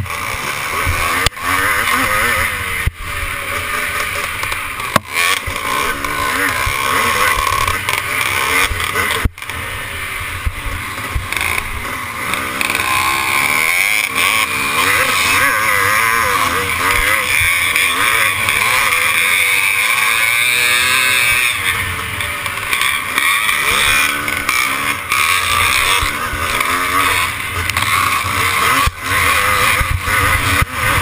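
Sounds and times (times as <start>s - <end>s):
motocross bike engine revving: 0.0s - 31.0s.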